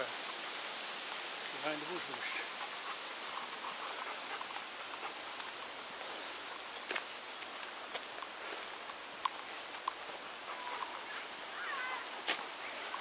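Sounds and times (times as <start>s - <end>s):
wind in trees: 0.0s - 13.0s.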